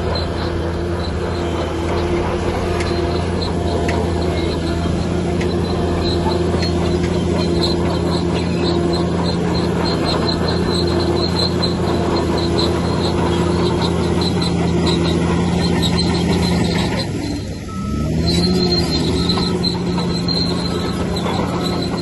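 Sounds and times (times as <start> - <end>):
bulldozer diesel engine running: 0.0 - 22.0
steel crawler tracks squeaking: 0.0 - 22.0.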